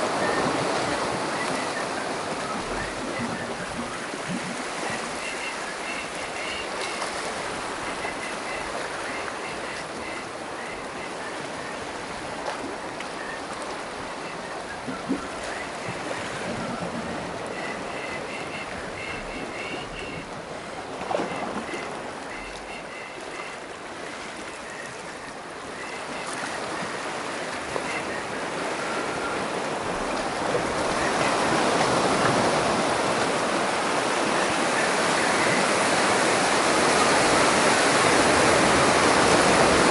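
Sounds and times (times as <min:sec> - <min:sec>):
surf breaking on rocky shore: 0:00.0 - 0:39.9.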